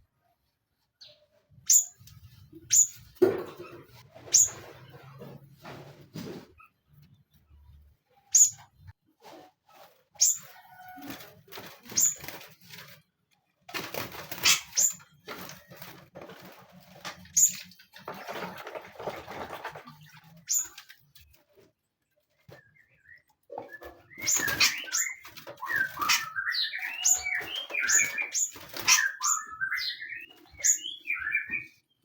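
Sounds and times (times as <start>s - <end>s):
birds fluttering and rustling: 0.4s - 32.0s.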